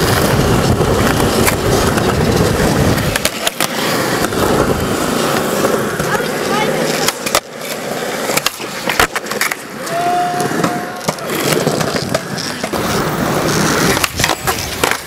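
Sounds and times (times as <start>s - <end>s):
skateboard clacking on ground: 0.0s - 15.0s
skateboard wheels rolling: 0.0s - 15.0s.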